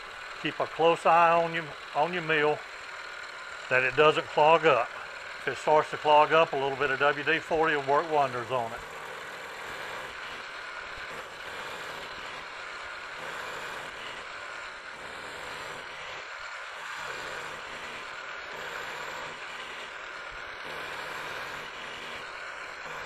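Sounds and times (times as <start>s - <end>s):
milling machine cutting metal: 0.0s - 23.0s.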